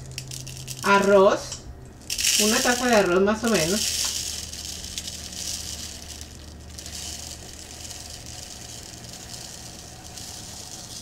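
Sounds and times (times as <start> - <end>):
low steady hum: 0.0 - 11.0
rice trickling into plastic cup: 2.0 - 11.0.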